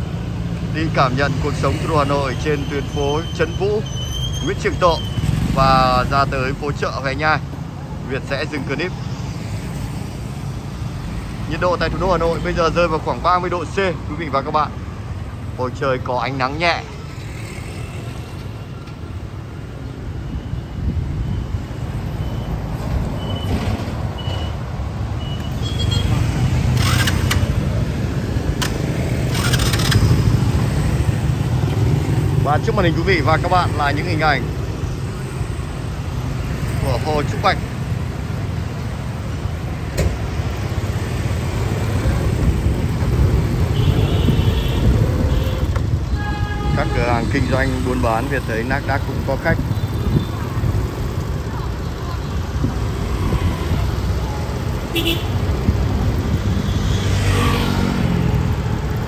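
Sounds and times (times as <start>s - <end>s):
street traffic: 0.0s - 59.0s.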